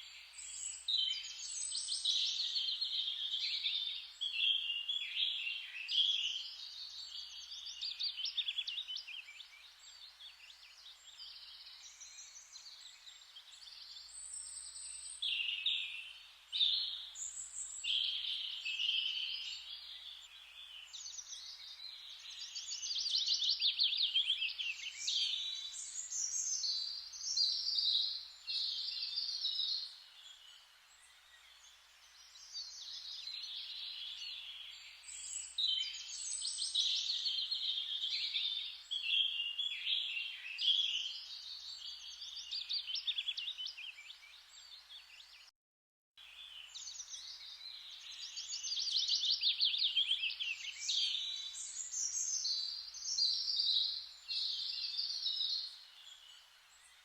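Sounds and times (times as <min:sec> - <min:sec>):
forest ambience hiss: 0:00.0 - 0:45.4, 0:46.2 - 0:57.0
birds chirping and trilling: 0:00.4 - 0:45.5, 0:46.2 - 0:57.0.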